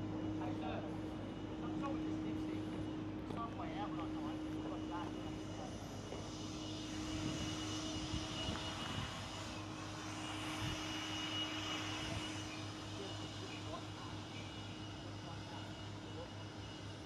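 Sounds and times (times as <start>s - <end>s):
mechanical drone: 0.0s - 17.0s
thin high whine: 0.0s - 17.0s.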